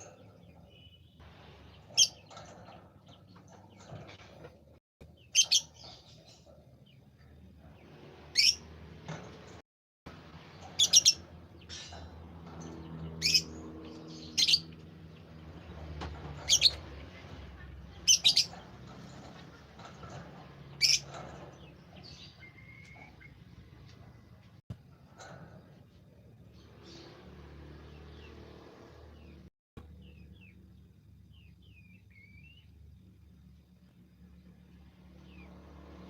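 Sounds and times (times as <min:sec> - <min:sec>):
songbird chirping: 0:00.0 - 0:24.6, 0:26.2 - 0:36.0.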